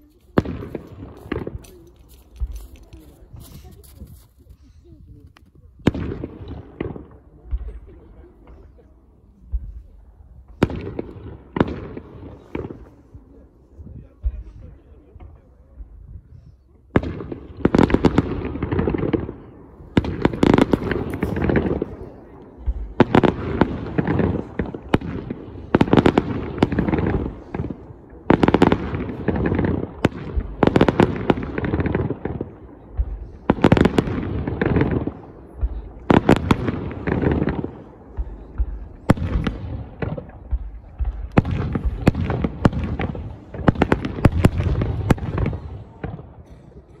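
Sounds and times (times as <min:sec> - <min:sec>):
fireworks bursting with rumble: 0:00.0 - 0:47.0.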